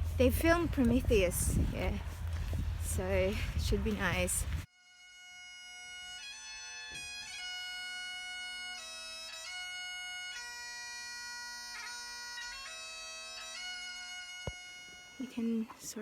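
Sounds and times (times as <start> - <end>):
bagpipe music: 0.0 - 15.8.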